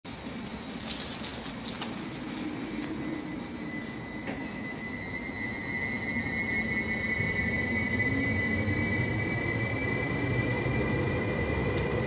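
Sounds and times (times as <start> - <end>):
train low rumble: 0.1 - 12.0
thin high whine: 2.3 - 12.0.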